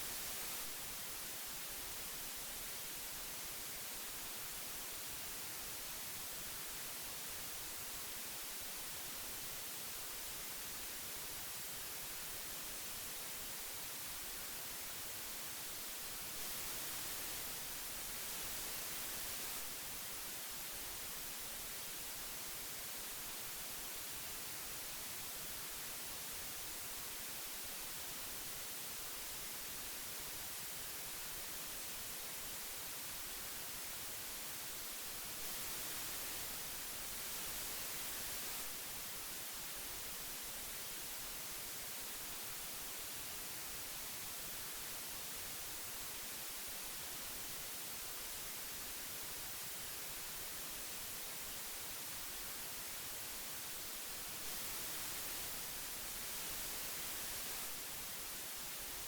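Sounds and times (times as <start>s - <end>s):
tape hiss: 0.0s - 59.0s.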